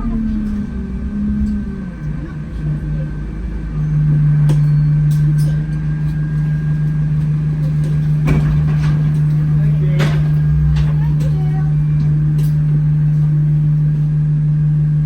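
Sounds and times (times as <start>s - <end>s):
bus engine droning hum: 0.0s - 15.0s.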